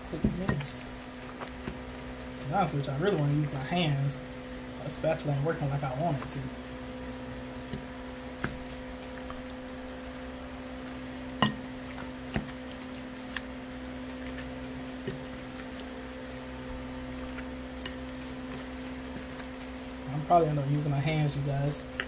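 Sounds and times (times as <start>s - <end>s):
spatula squishing thick dip: 0.0s - 22.0s
steady low hum: 0.0s - 22.0s.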